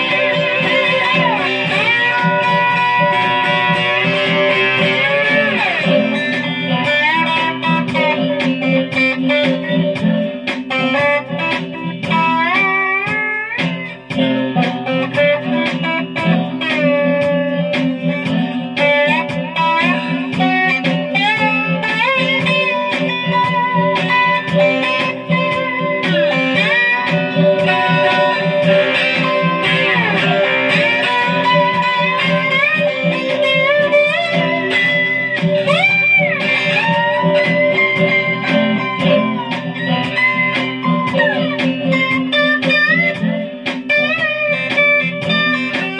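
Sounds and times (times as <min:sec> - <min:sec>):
low ringing guitar notes: 0:00.0 - 0:45.9
slide guitar: 0:00.0 - 0:45.9.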